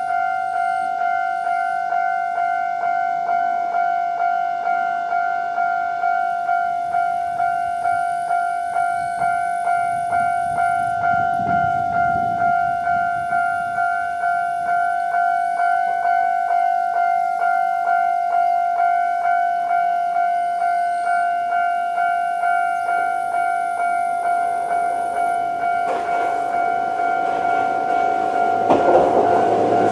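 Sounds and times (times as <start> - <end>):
level-crossing alarm bell ringing: 0.0 - 29.9.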